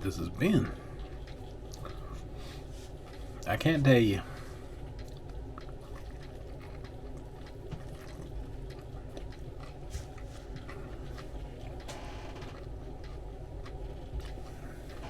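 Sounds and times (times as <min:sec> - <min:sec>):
steady low hum: 0:00.0 - 0:15.0
person chewing food: 0:00.4 - 0:03.5, 0:04.2 - 0:15.0.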